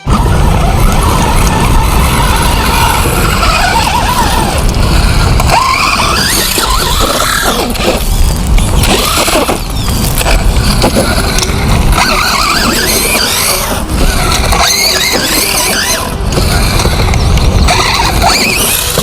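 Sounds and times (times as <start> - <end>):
electric motor whining: 0.0 - 19.0
low rumble of truck on dirt: 0.0 - 19.0.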